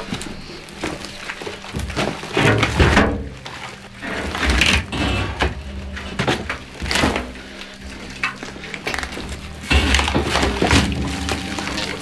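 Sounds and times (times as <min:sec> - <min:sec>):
knocks and scraping: 0:00.0 - 0:12.0
wood cracking and splintering: 0:00.0 - 0:12.0.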